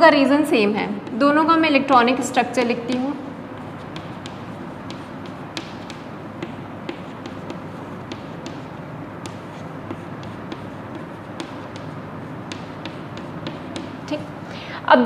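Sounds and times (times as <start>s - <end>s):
steady background hiss: 0.0s - 15.0s
chalk tapping on blackboard: 0.7s - 14.4s.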